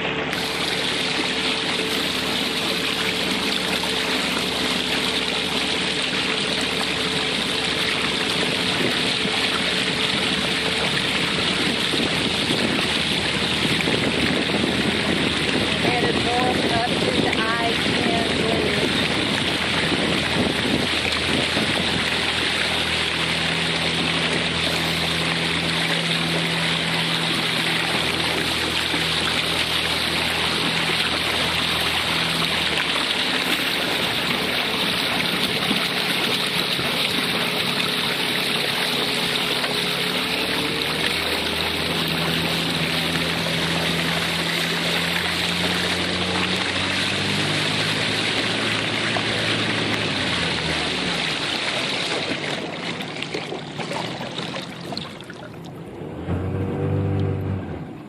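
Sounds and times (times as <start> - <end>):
small boat motor running: 0.0 - 58.0
water rushing: 0.0 - 58.0
wind: 0.0 - 58.0.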